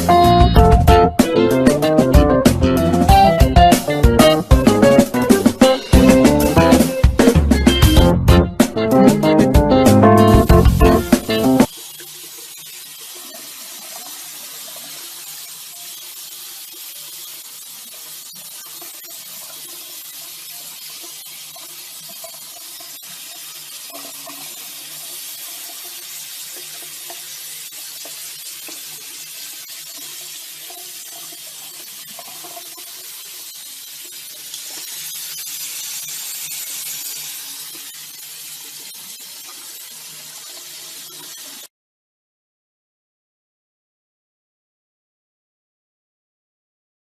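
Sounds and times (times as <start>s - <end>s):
running water hiss: 1.2s - 8.0s, 8.6s - 41.7s.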